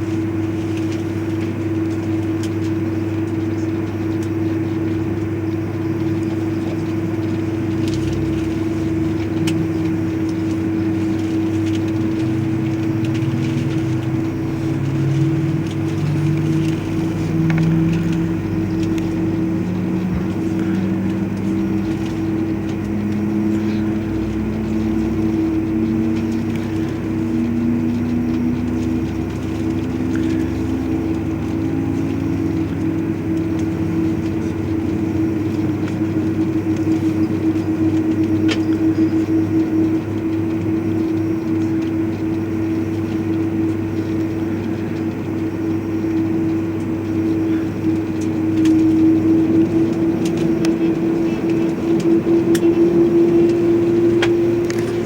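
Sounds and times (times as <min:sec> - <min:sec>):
jet engines whining: 0:00.0 - 0:55.0
lower whine rising in pitch: 0:02.4 - 0:55.0.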